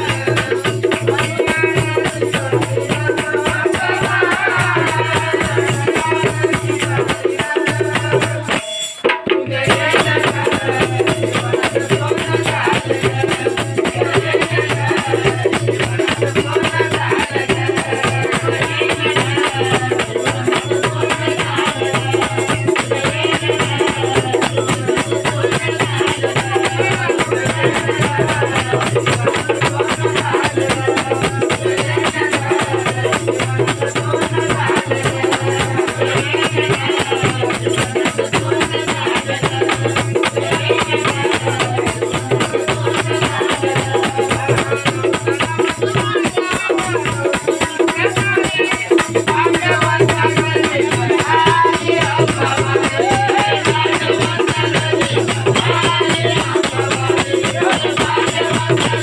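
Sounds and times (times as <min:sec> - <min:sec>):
fast rattling percussion: 0:00.0 - 0:59.0
group singing: 0:00.0 - 0:59.0
hand-played barrel drum: 0:00.0 - 0:59.0.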